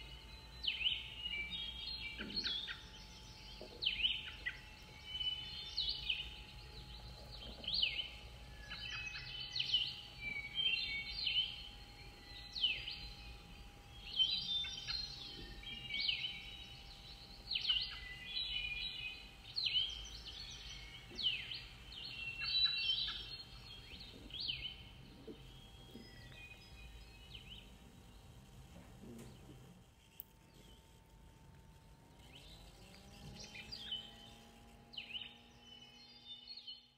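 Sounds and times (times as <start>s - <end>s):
birds singing down-sweeping notes: 0.0s - 36.9s.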